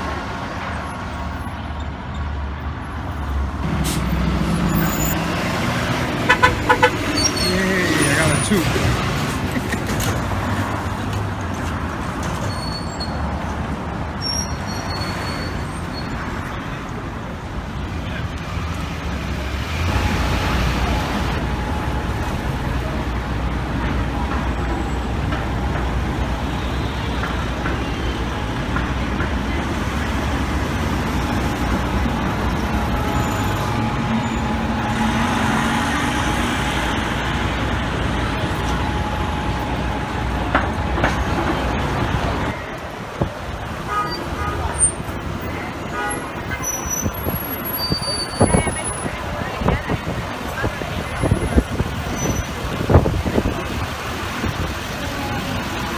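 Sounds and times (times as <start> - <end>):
heavy vehicle rumble: 0.0 - 55.9
vehicles passing: 0.0 - 55.9.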